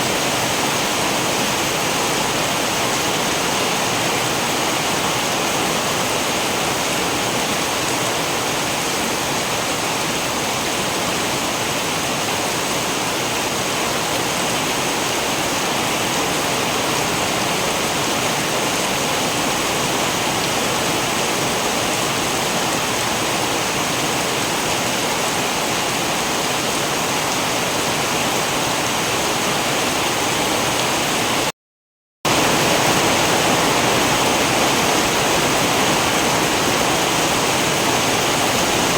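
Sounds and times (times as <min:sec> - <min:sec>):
heavy rain: 0:00.0 - 0:31.5, 0:32.3 - 0:38.9.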